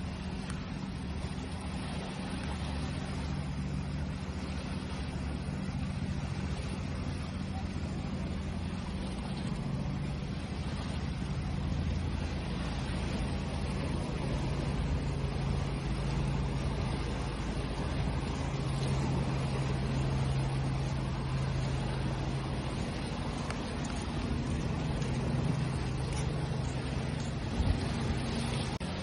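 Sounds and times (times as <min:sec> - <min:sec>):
constant low hum: 0:00.0 - 0:29.0
sea waves washing: 0:00.0 - 0:29.0.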